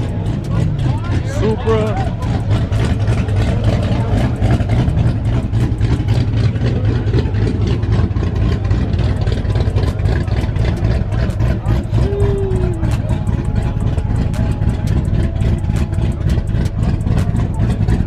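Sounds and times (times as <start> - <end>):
car engine idling loudly: 0.0 - 18.0.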